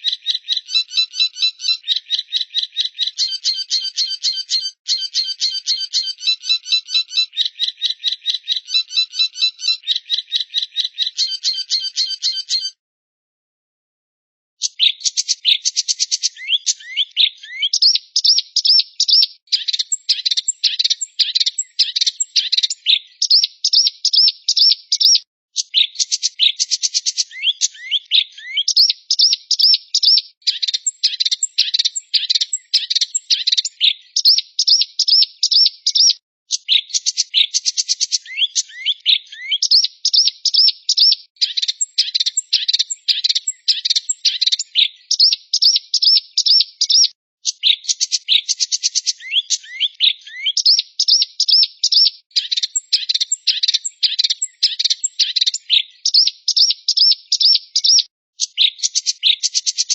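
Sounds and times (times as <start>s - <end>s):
songbird trills and whistles: 0.0s - 12.8s, 14.6s - 59.9s.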